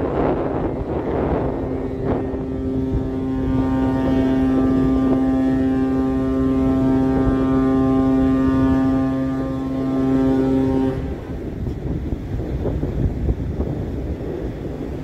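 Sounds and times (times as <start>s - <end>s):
ship horn drone: 0.0s - 12.1s.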